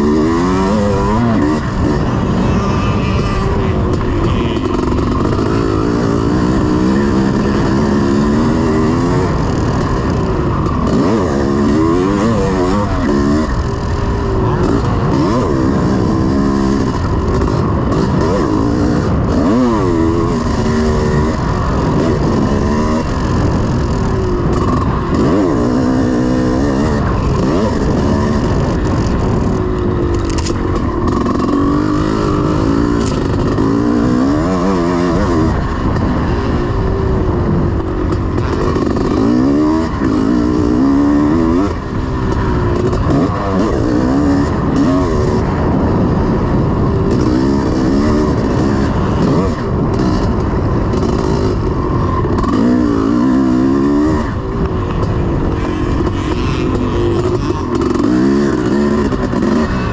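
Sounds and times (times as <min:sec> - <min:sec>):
motorcycle engine revving: 0:00.0 - 0:59.9
steady rush of noise: 0:00.0 - 0:59.9.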